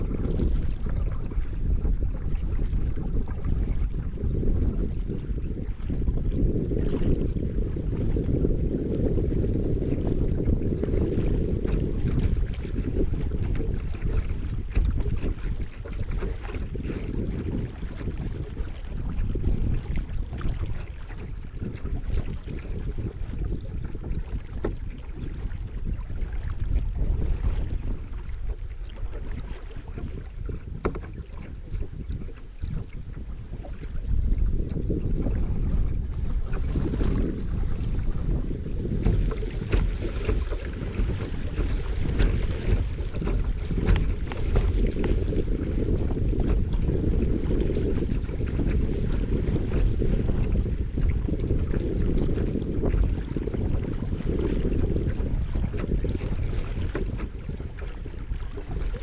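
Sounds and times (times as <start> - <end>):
river current splashing on hull: 0.0 - 59.0
wind rumble on microphone: 0.0 - 59.0.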